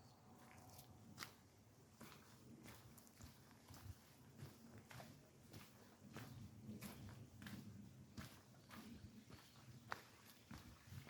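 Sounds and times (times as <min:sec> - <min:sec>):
footsteps on forest path: 0:00.1 - 0:11.0.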